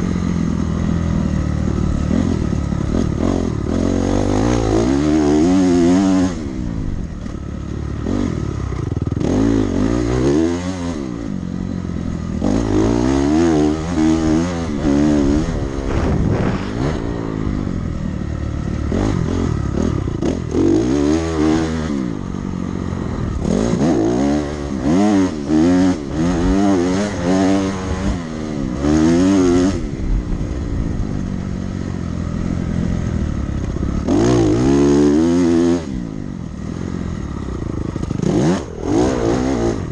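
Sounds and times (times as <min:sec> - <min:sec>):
dirt bike engine revving: 0:00.0 - 0:31.4, 0:32.2 - 0:39.9.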